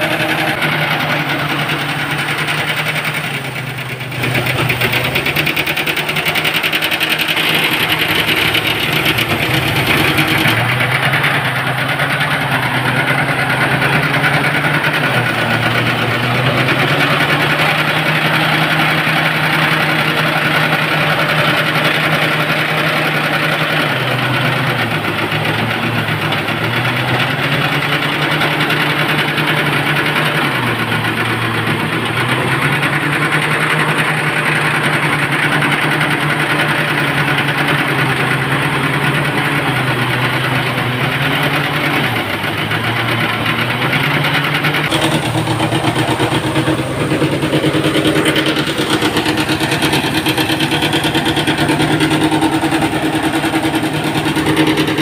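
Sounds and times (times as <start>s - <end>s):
rice thresher engine running: 0.0s - 55.0s.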